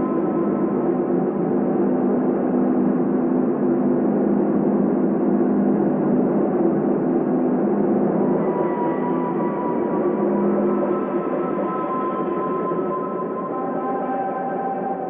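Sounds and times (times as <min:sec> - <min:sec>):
dense wash of noise: 0:00.0 - 0:15.0
sustained low drone tones: 0:00.0 - 0:15.0.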